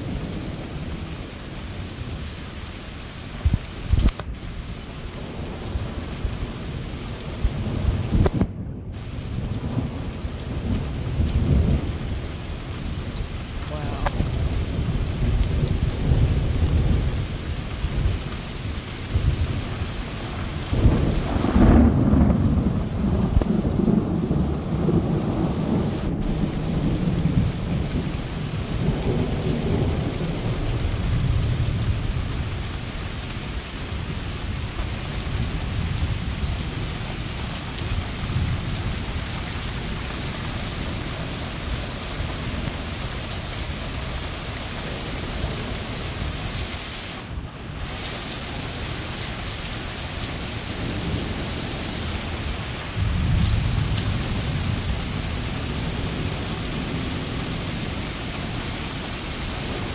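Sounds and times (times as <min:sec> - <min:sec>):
steady rain: 0:00.0 - 0:59.9
thunder rumbling: 0:00.0 - 0:59.9.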